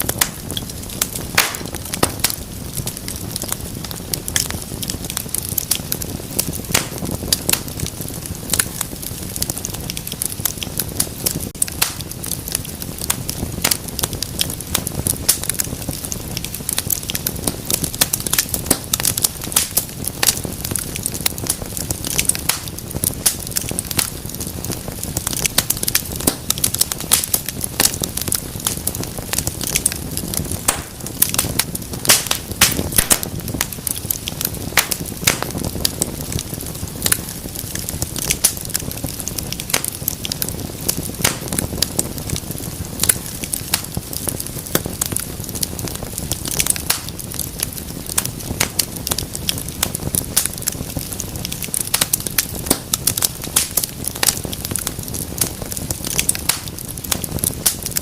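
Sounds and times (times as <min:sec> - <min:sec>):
flames rushing: 0:00.0 - 0:58.0
wood fire crackling: 0:00.0 - 0:58.0.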